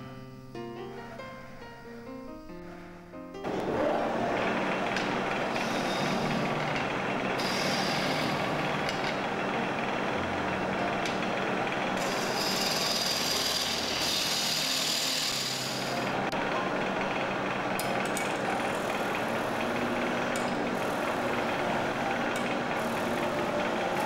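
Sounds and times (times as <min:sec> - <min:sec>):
lathe motor hum: 0:03.4 - 0:24.0.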